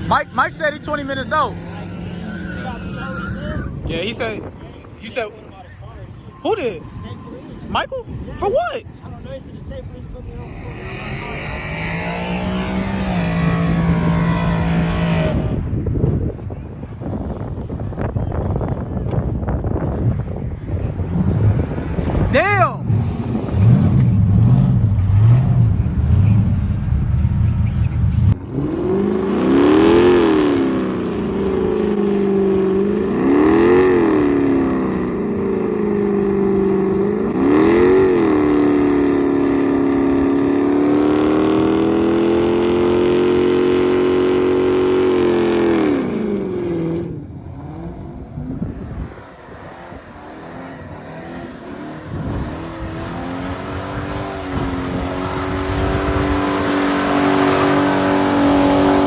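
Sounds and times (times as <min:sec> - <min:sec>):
car engine revving: 0:00.0 - 0:17.4, 0:19.9 - 0:59.0.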